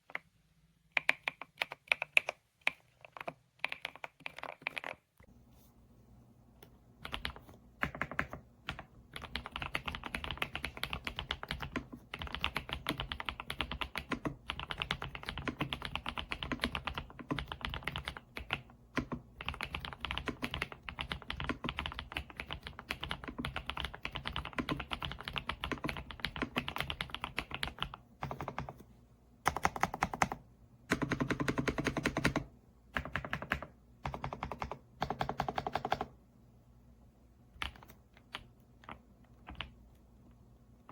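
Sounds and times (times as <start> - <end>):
mechanical keyboard typing: 0.9 - 5.1, 7.0 - 28.8, 29.5 - 36.1, 37.6 - 39.8.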